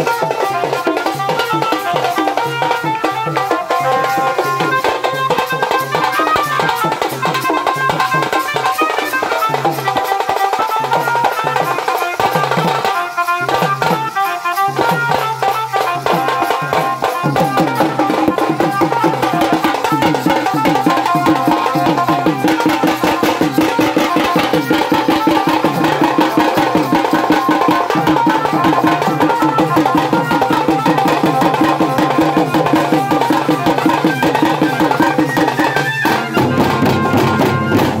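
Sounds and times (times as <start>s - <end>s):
drums in fast rhythm: 0.0s - 38.0s
hand cymbals: 0.0s - 38.0s
steady held melody line: 0.0s - 38.0s.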